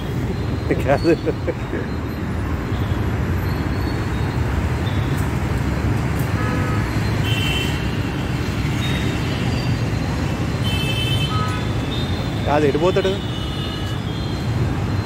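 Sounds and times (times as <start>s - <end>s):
high vehicle beeps: 0.0s - 7.3s, 8.0s - 10.5s, 11.3s - 15.0s
road traffic rumble: 0.0s - 15.0s.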